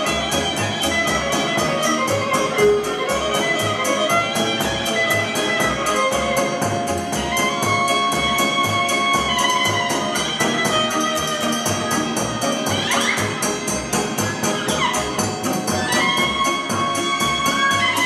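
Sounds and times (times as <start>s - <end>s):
keyboard accompaniment: 0.0s - 18.0s
violin melody: 0.0s - 18.0s.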